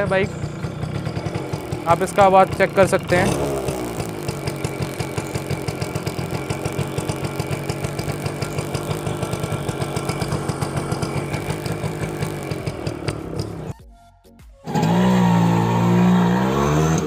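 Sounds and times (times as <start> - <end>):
two-stroke engine idling: 0.0 - 13.8, 14.7 - 17.0.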